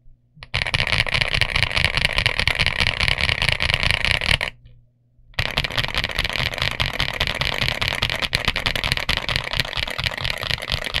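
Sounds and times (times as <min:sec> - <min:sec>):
fast typing on mechanical keyboard: 0:00.4 - 0:04.6, 0:05.4 - 0:11.0.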